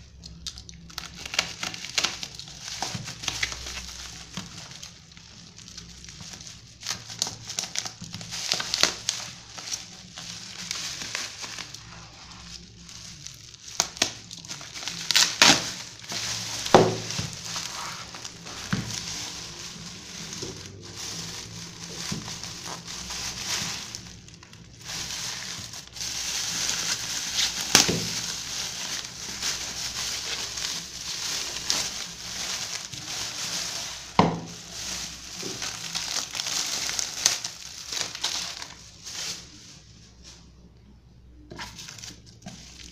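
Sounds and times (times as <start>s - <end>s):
plastic packaging crinkling: 0.0s - 40.3s, 41.4s - 42.9s.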